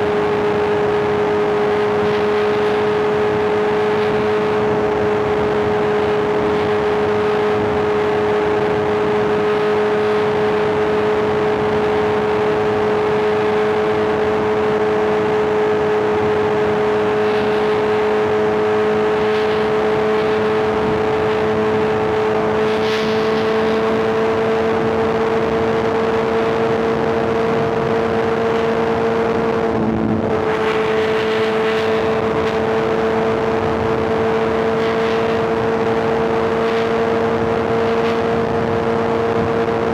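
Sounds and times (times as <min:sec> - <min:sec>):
wind and road rush: 0:00.0 - 0:39.9.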